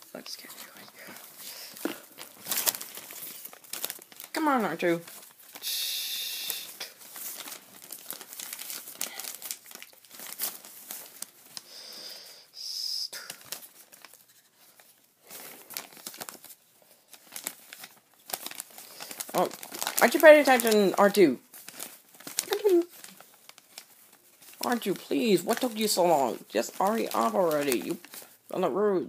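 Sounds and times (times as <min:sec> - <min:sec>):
paper crinkling and rustling: 0:00.0 - 0:05.7, 0:06.4 - 0:11.7, 0:13.2 - 0:28.7.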